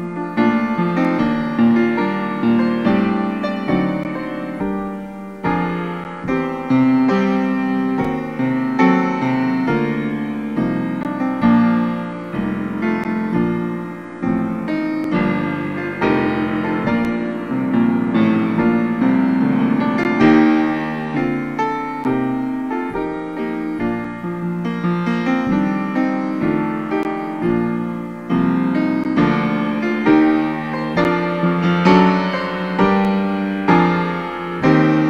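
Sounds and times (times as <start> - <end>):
grand piano playing: 0.0 - 35.0.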